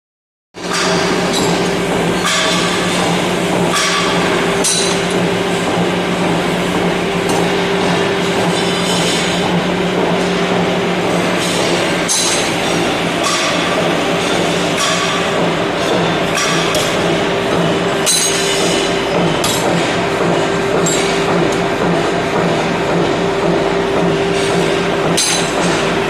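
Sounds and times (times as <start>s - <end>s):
power hammer machine hum: 0.6s - 26.0s
power hammer sharp blows: 0.6s - 26.0s.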